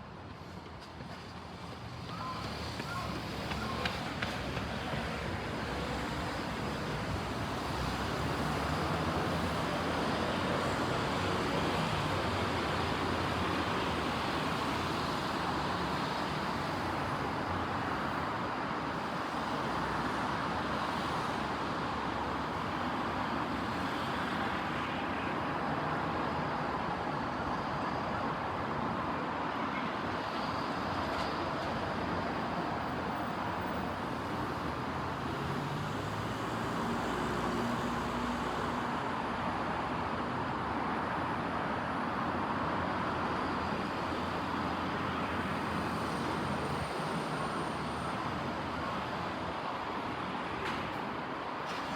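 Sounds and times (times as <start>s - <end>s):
cars passing on street: 0.0s - 51.9s.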